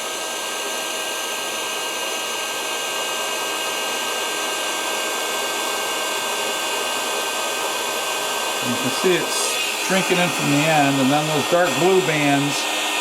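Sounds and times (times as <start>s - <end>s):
heat gun fan blowing with whine: 0.0s - 13.0s.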